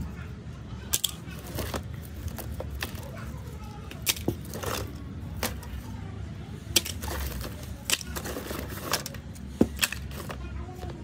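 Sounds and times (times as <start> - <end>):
phone parts clattering in a box: 0.9 - 5.9, 6.7 - 11.0.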